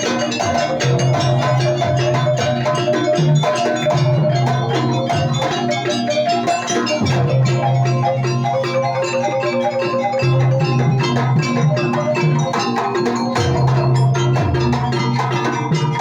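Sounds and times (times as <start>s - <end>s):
gamelan ensemble music: 0.0s - 16.0s.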